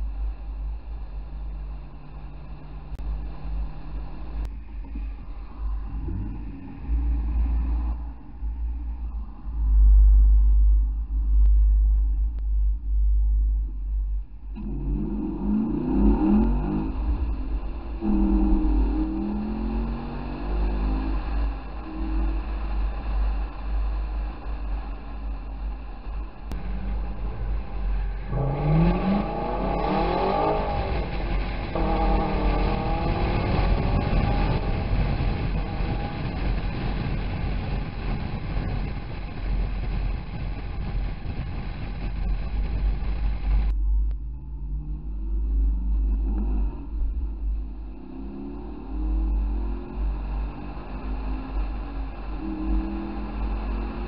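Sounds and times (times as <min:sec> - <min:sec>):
car engine accelerating: 0:00.0 - 0:54.0
road and wind rumble: 0:00.0 - 0:54.0.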